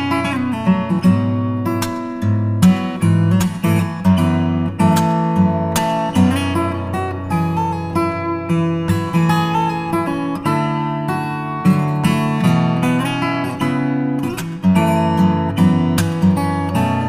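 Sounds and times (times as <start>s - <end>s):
acoustic guitar playing chords: 0.0s - 17.0s.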